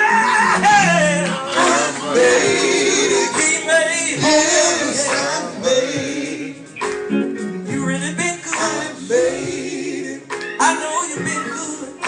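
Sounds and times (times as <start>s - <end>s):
man singing gospel: 0.0s - 6.8s, 7.7s - 12.0s
instrumental accompaniment: 0.0s - 12.0s.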